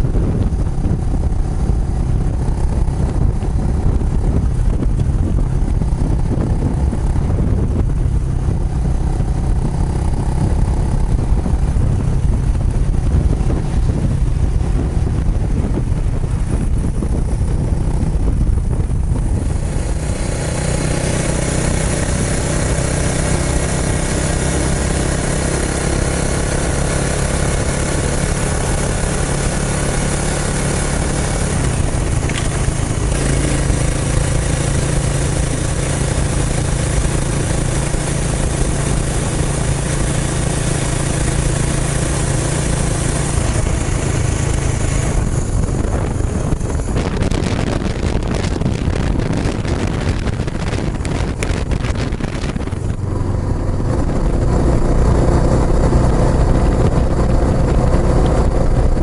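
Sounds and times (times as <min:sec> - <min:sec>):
motorcycle engine low rumble: 0:00.0 - 0:59.0.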